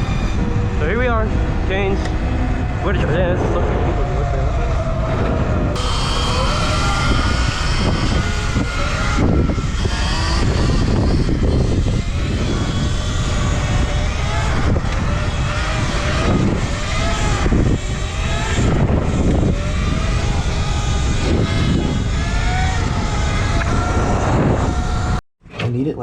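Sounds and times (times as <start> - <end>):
electric motor whine: 0.0 - 25.2
wind on microphone: 0.0 - 25.2.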